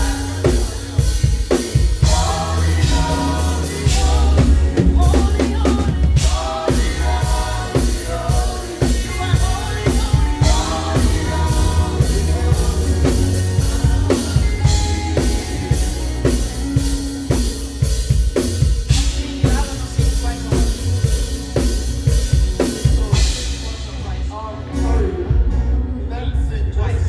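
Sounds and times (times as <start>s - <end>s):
drum kit beat: 0.0s - 24.2s
live band playing: 0.0s - 26.0s
heavy bass: 0.0s - 27.0s.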